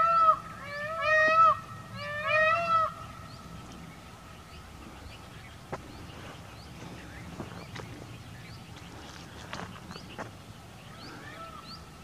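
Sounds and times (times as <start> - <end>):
peacock calling: 0.0 - 8.1, 9.1 - 12.0.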